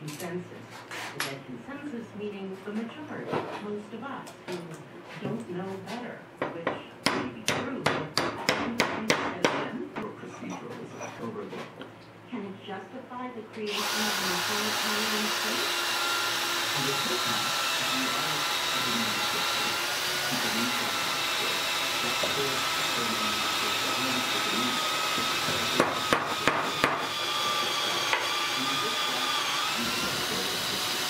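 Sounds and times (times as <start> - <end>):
workshop whirring: 0.0 - 31.0.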